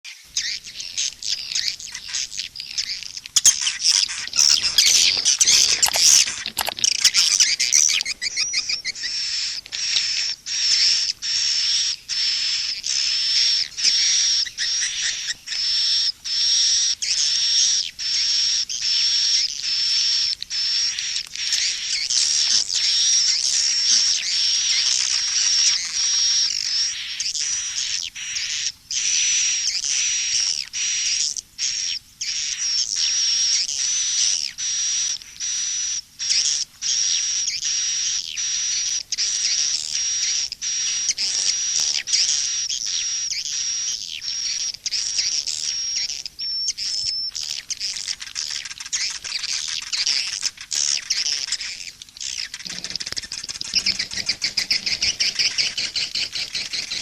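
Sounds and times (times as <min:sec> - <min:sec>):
swiftlets chirping and twittering: 0:00.1 - 0:57.0.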